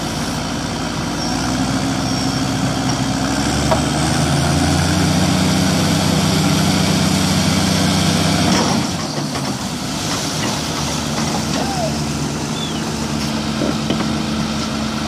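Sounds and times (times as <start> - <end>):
heavy diesel engines under load: 0.0 - 15.0.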